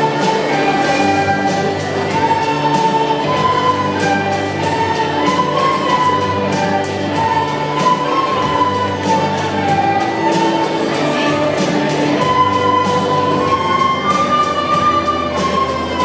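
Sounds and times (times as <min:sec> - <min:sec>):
recorder ensemble playing: 0:00.0 - 0:16.0.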